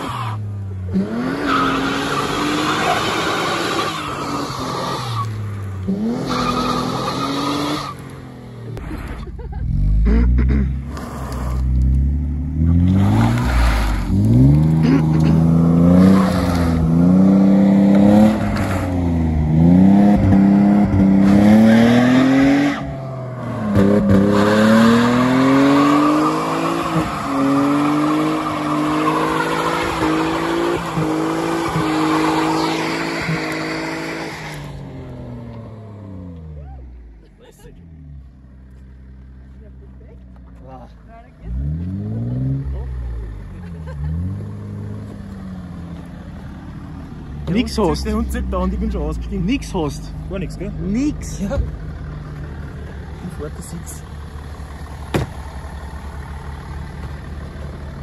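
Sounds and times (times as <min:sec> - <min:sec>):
car engines revving hard: 0:00.0 - 0:36.6, 0:37.9 - 0:58.0.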